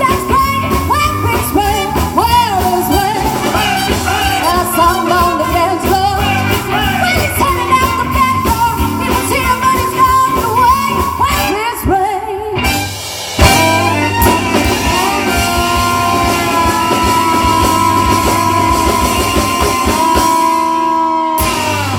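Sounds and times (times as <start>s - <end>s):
woman singing: 0.0s - 21.6s
live band playing: 0.0s - 21.9s.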